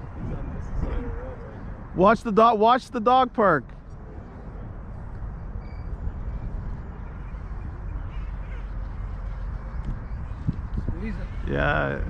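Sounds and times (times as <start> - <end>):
wind buffeting microphone: 0.0 - 2.4, 3.6 - 12.0.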